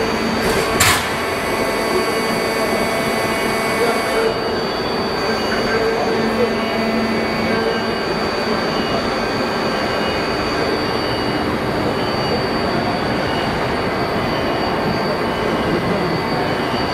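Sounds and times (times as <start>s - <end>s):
hydraulic pump whirring and whining: 0.0s - 16.9s.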